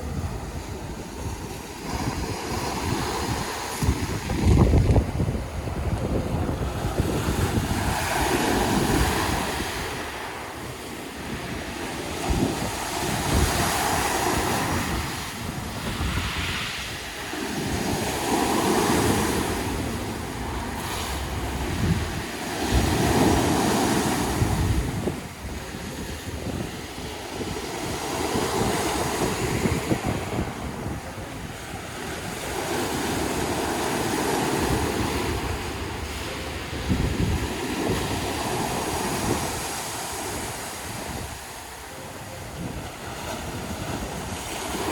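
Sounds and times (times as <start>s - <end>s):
sea waves breaking on beach: 0.0s - 44.9s
wind rumbling on microphone: 0.0s - 44.9s.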